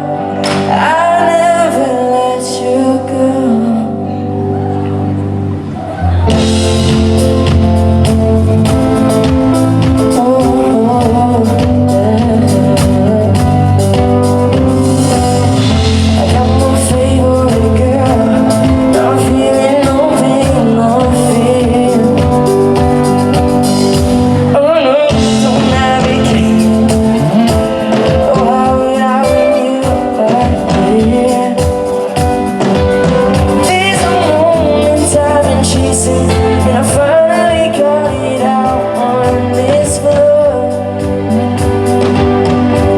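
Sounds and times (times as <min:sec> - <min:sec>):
live band music: 0:00.0 - 0:42.9
person singing: 0:00.0 - 0:42.9.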